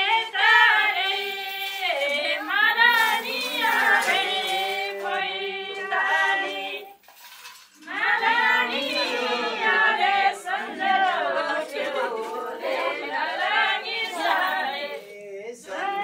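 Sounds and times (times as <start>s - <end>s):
group singing without instruments: 0.0s - 7.0s, 7.8s - 16.0s.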